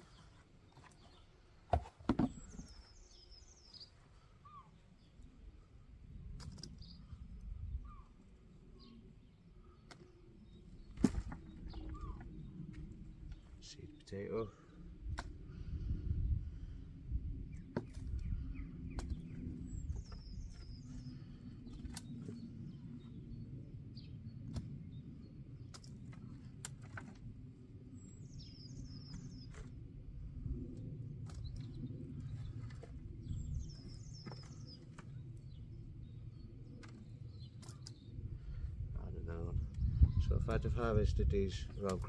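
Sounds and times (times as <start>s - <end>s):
songbird singing: 0.0s - 15.6s, 17.4s - 30.1s, 30.8s - 42.0s.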